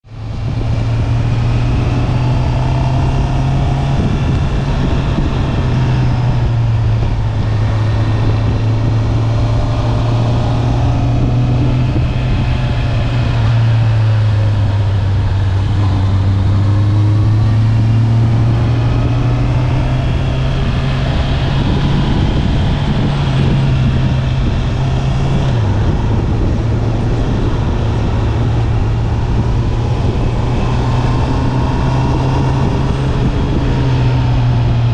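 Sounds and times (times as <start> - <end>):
motorcycle engine and exhaust running: 0.0 - 34.9.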